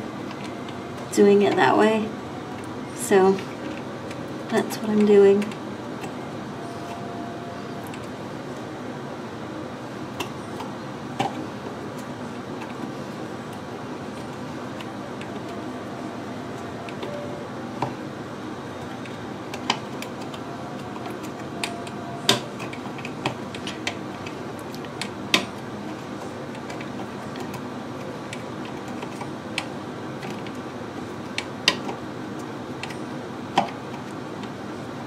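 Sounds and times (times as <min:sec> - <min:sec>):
steady background noise: 0:00.0 - 0:35.0.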